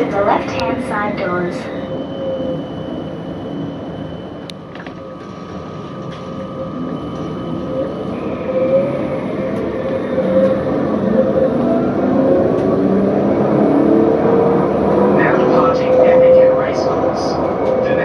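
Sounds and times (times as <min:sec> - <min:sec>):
tram electric whine: 0:00.0 - 0:18.0.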